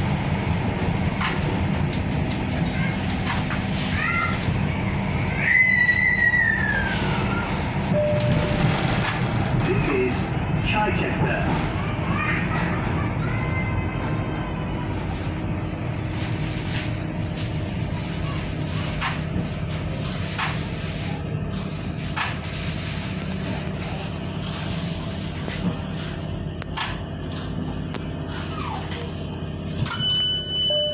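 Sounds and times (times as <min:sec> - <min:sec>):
train rumbling and humming: 0:00.0 - 0:30.9.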